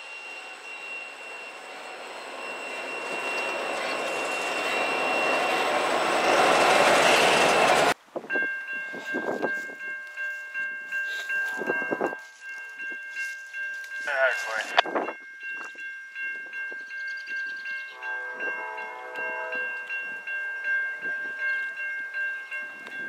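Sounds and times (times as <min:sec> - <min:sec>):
freight train wheels on rails: 0:00.0 - 0:23.0
high ringing tones: 0:00.0 - 0:23.0.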